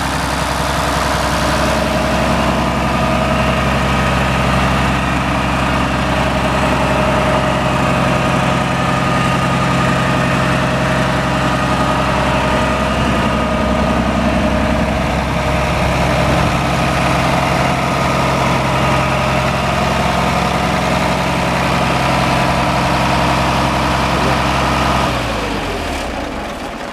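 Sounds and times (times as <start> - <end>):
tractor diesel engine idling: 0.0 - 26.9.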